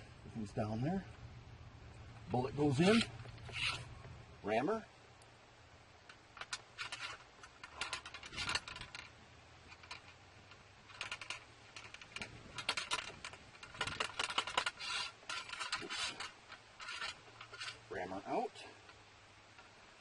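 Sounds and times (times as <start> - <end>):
ramrod clicking and rattling in barrel: 2.0 - 4.5, 6.0 - 19.8.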